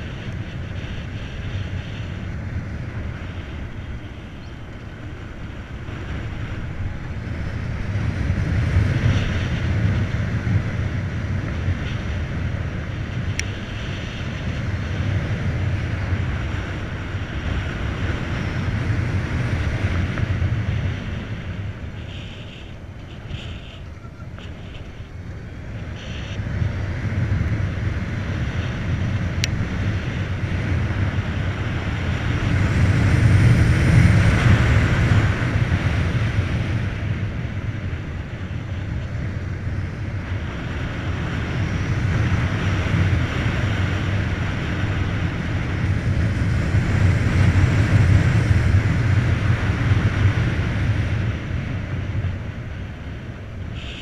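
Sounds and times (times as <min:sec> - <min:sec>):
road and tyre noise: 0:00.0 - 0:54.0
wind rushing over microphone: 0:00.0 - 0:54.0.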